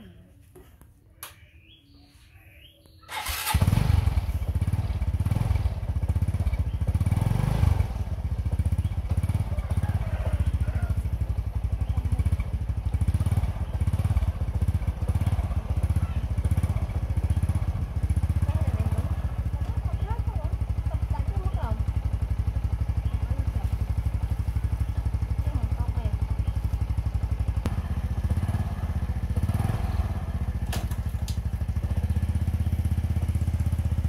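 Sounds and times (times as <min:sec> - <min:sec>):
motorbike engine starting and idling: 0:02.8 - 0:34.0.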